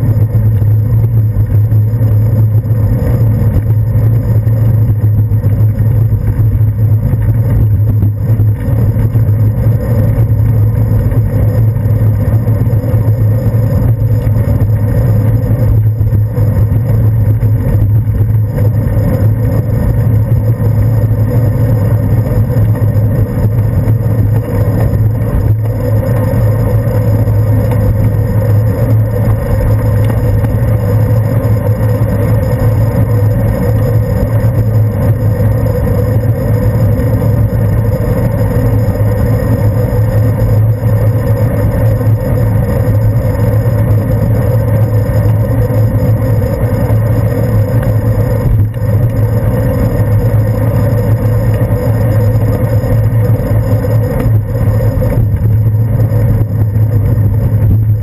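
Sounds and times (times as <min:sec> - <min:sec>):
bicycle rolling on pavement rumble: 0:00.0 - 0:58.0.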